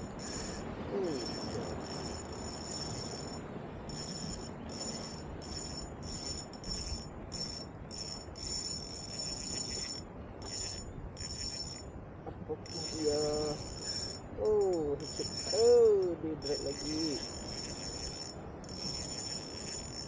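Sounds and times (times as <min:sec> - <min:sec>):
fishing reel drag buzzing: 0:00.0 - 0:11.9, 0:12.6 - 0:20.0.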